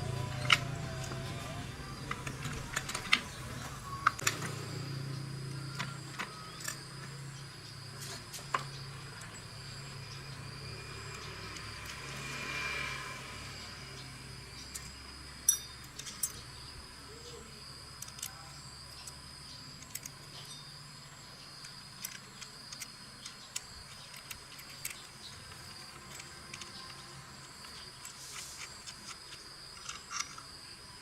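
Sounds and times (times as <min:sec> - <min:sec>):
high drone of insects: 0:00.0 - 0:31.0.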